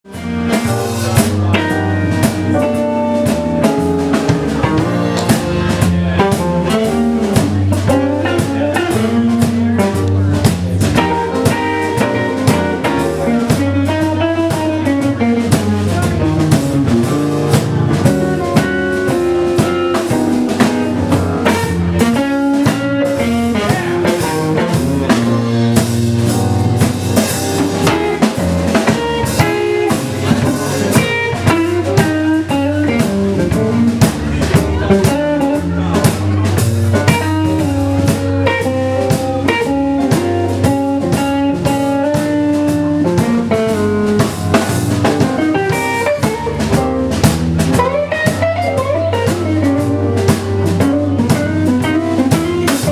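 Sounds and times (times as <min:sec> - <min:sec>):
band playing blues song: 0:00.0 - 0:52.9
drum rimshots: 0:00.1 - 0:52.9.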